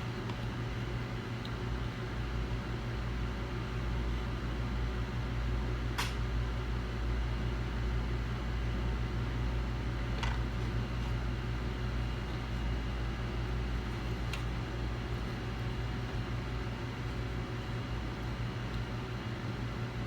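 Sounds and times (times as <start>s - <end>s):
electrical hum and fan noise: 0.0s - 20.0s.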